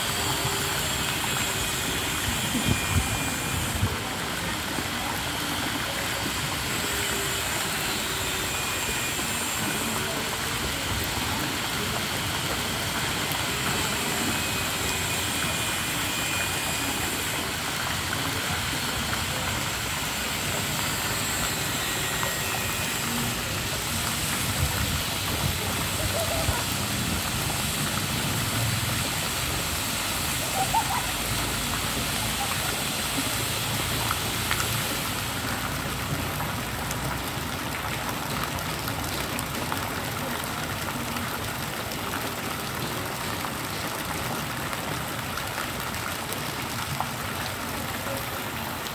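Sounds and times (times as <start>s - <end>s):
rain falling on pool water: 0.0s - 48.9s.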